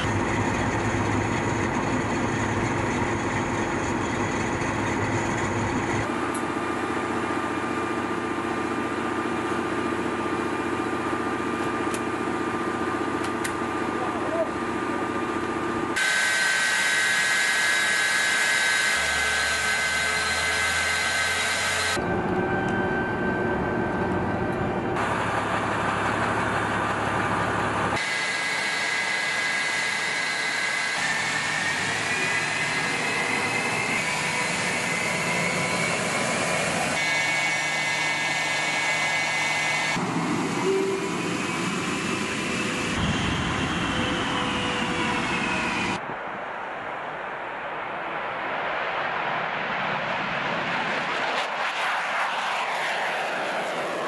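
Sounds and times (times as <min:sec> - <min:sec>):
jet engines whining and rushing: 0:00.0 - 0:54.0.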